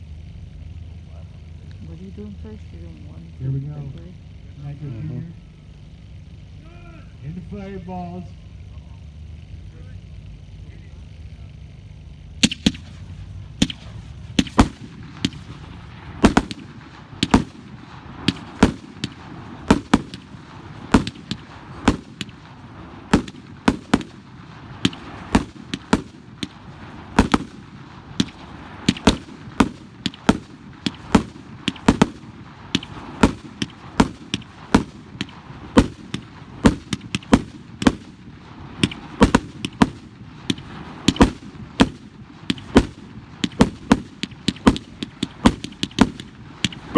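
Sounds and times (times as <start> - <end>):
fireworks banging: 0.0 - 46.9.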